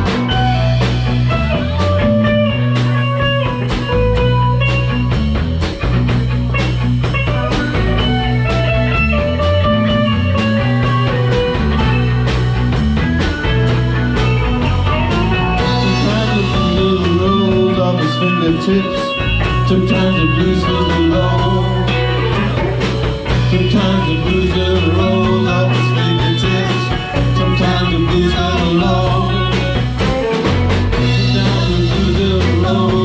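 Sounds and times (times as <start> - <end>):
bass line: 0.0 - 33.0
guitar melody: 0.0 - 33.0
steady drum beat: 0.0 - 33.0.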